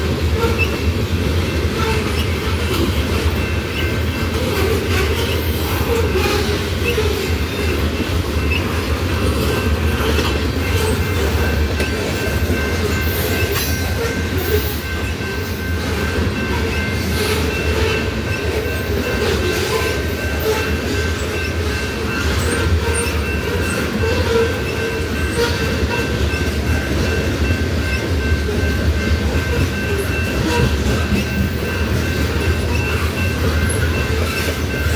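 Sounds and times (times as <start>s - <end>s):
train rumbling past: 0.0s - 34.9s.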